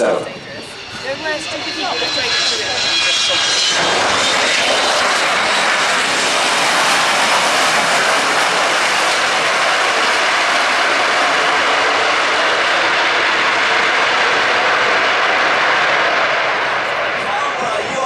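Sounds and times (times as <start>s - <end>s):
jet plane passing low: 0.0s - 18.0s.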